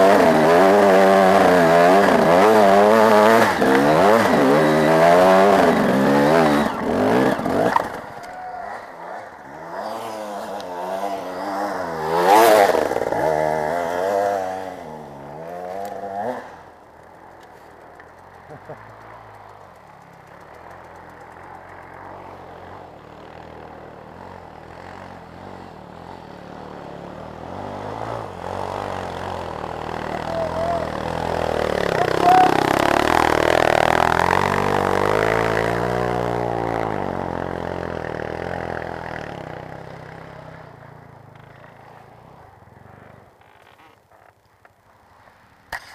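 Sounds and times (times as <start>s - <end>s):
motocross motorcycle engine passing: 0.0s - 45.9s.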